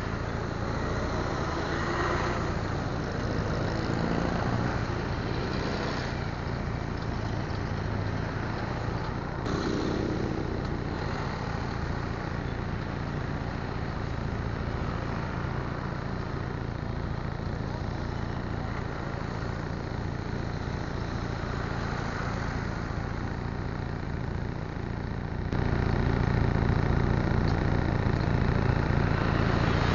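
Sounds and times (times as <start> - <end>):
vehicle and road noise: 0.0 - 29.9.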